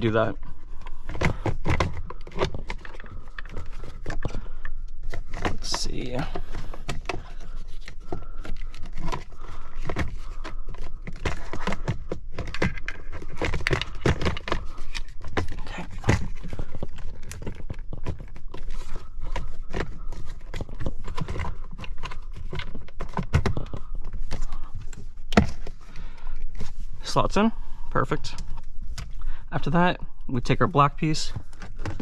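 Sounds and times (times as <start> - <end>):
plastic parts clicking and scraping: 0.0 - 32.0.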